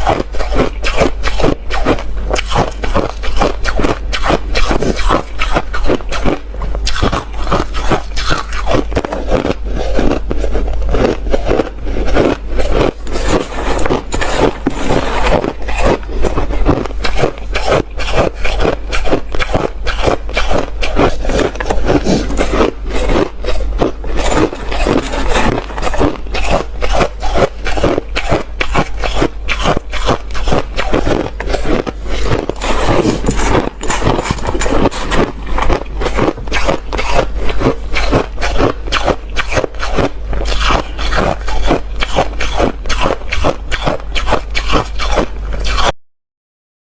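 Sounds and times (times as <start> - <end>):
ice being chewed: 0.0 - 45.9.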